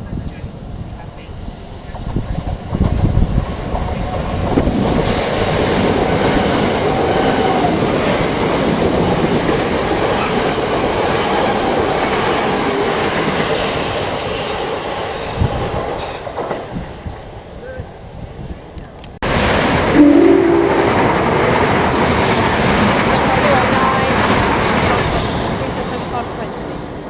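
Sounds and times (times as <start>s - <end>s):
train passing on track: 0.0s - 27.0s.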